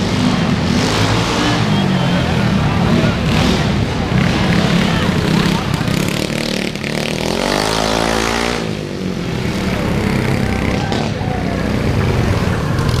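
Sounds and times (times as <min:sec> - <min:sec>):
mini bike engines racing: 0:00.0 - 0:13.0.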